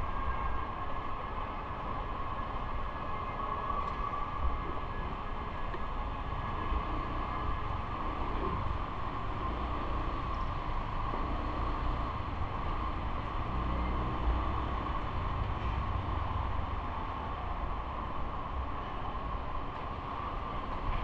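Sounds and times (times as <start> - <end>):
wind and road rumble: 0.0 - 21.0.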